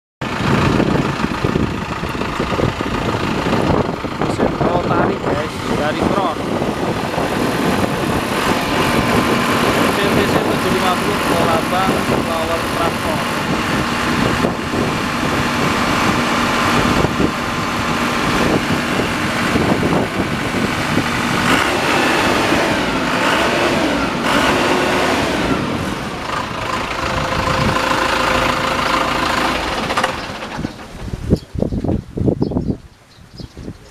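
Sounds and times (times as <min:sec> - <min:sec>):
crawler tractor engine running: 0:00.2 - 0:32.0.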